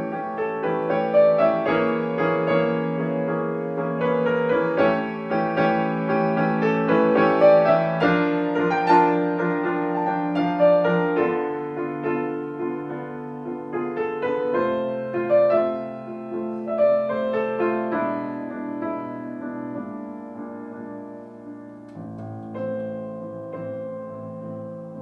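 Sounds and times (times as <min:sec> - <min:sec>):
slow solo piano piece: 0:00.0 - 0:25.0.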